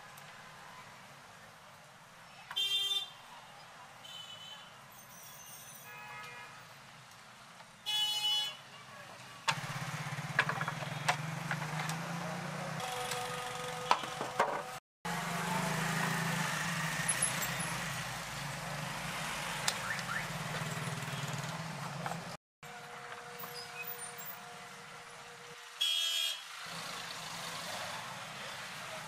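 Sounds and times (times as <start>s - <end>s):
street traffic hum: 0.0s - 29.0s.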